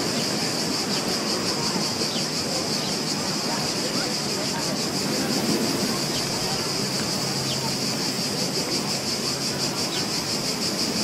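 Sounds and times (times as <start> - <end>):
shrill insect chorus: 0.0 - 11.0
surf washing: 0.0 - 11.0.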